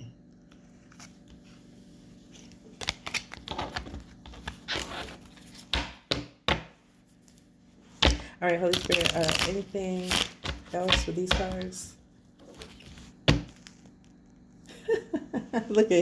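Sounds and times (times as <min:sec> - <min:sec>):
cards being shuffled: 0:00.5 - 0:14.2.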